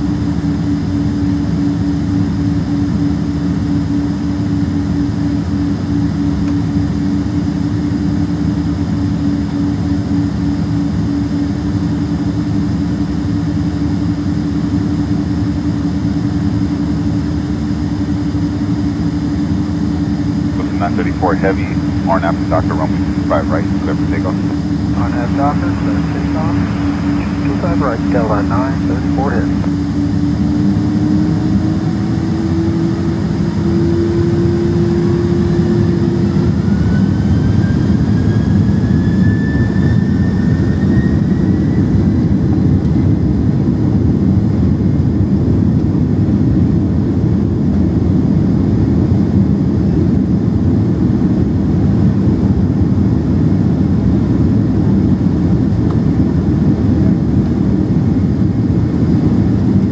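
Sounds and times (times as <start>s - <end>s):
jet engine roar: 0.0s - 59.9s
jet engines whining: 0.0s - 59.9s.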